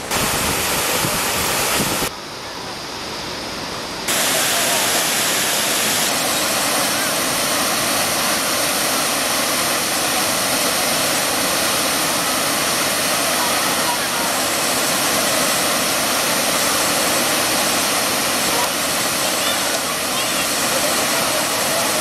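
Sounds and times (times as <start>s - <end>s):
water rushing over cascade: 0.0s - 22.0s.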